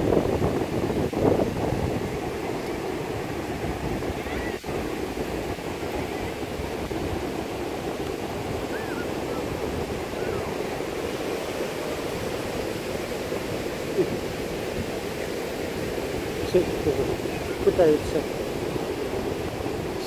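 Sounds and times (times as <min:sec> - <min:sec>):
surf washing over sand: 0:00.0 - 0:20.0.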